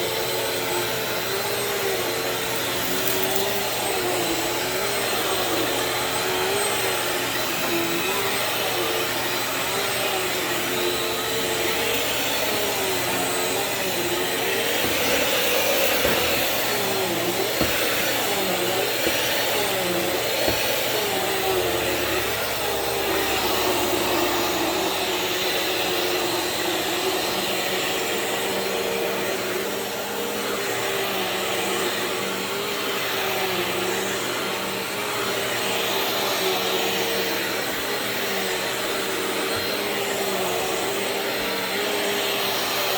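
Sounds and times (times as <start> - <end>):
vacuum cleaner on carpet: 0.0 - 42.9.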